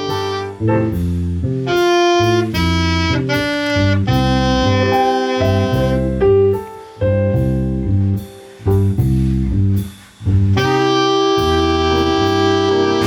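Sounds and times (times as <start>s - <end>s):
saxophone: 0.0s - 8.2s, 8.9s - 13.0s
bass: 0.0s - 13.0s
drums: 0.0s - 13.0s.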